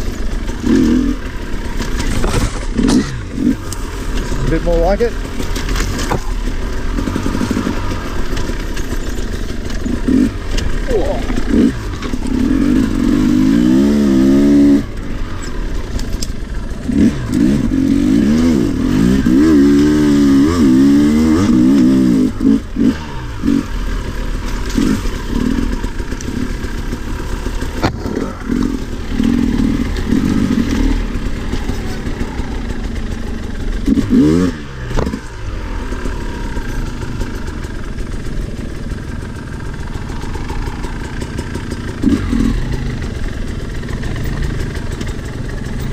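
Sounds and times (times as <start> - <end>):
two-stroke motorcycle engine revving: 0.0 - 45.9.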